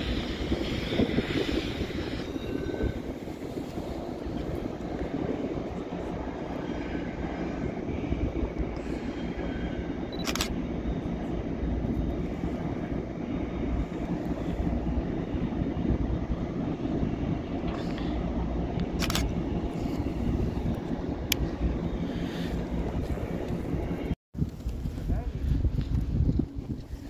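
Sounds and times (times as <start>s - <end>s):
distant diesel locomotives rumbling: 0.0s - 24.2s.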